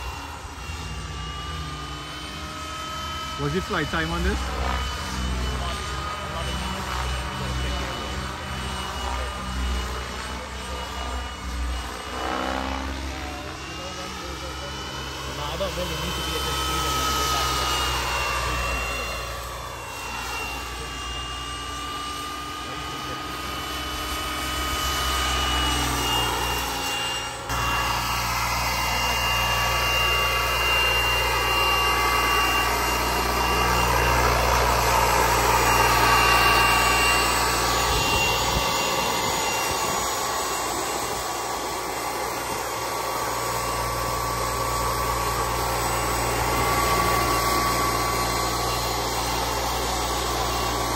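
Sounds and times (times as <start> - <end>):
gas turbine whine: 0.0 - 50.9
helicopter rotor rush: 0.0 - 50.9.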